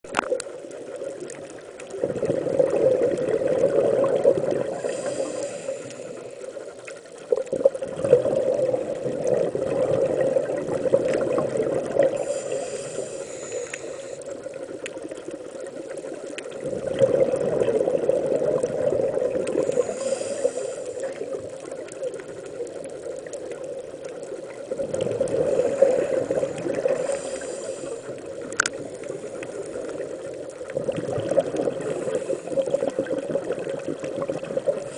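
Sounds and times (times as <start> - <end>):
exhaled bubbles gurgling: 0.1 - 34.9
underwater hiss: 0.2 - 34.9.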